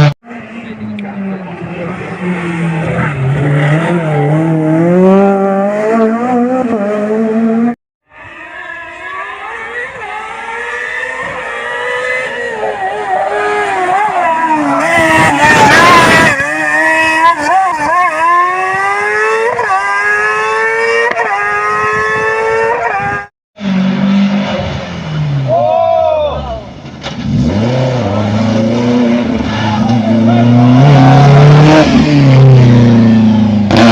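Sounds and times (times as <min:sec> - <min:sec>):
race car engine revving: 0:00.0 - 0:25.6, 0:26.9 - 0:33.9.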